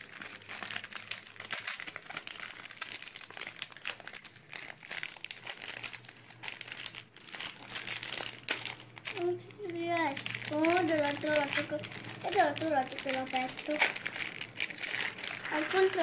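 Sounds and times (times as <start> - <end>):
foil sachets crinkling: 0.0 - 16.0.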